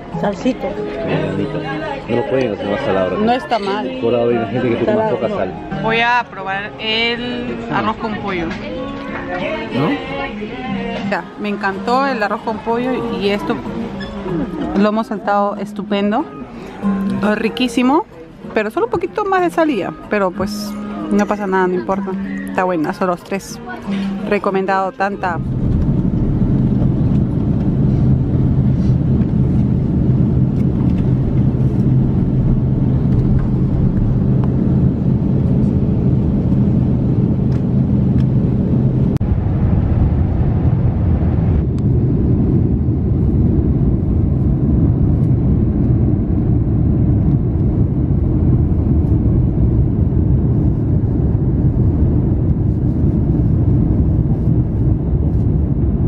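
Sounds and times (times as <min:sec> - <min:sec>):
low steady rumble: 0:00.0 - 0:56.0
jet engines rushing: 0:11.0 - 0:56.0.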